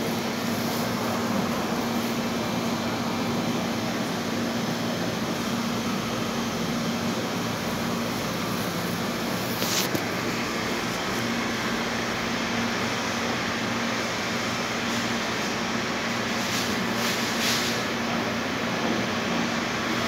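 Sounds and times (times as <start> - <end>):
refrigeration machinery humming: 0.0 - 20.0.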